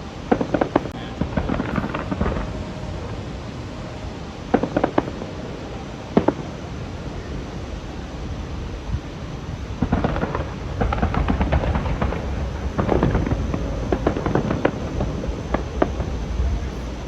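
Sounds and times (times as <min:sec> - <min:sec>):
fireworks bangs: 0:00.0 - 0:07.4, 0:08.9 - 0:17.0
steady low rumble: 0:00.0 - 0:17.0.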